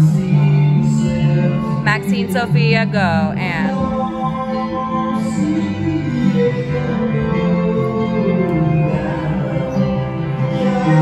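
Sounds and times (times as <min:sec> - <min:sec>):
music with long held notes: 0:00.0 - 0:11.0
person singing: 0:00.0 - 0:11.0.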